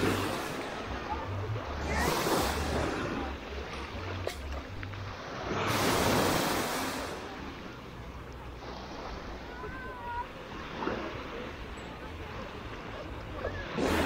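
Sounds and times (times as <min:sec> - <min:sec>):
small waves washing onto sand: 0:00.0 - 0:14.0.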